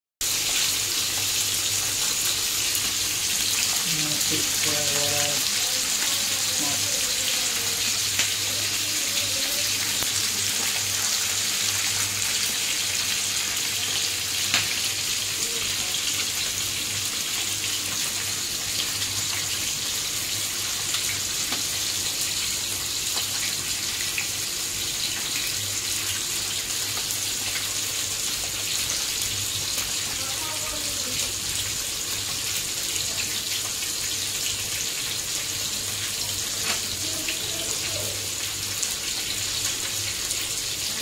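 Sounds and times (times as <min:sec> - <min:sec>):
fish sizzling in oil: 0:00.2 - 0:41.0.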